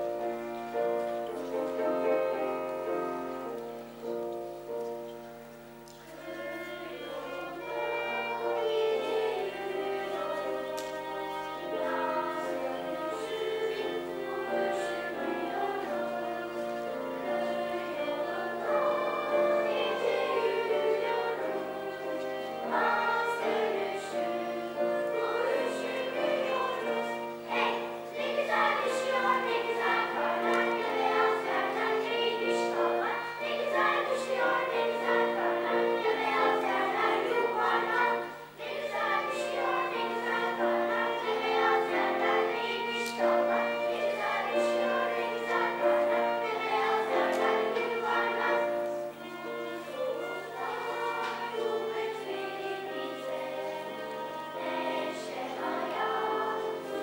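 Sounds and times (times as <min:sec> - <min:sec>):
children's choir singing: 0:00.0 - 0:57.0
violin: 0:00.0 - 0:57.0.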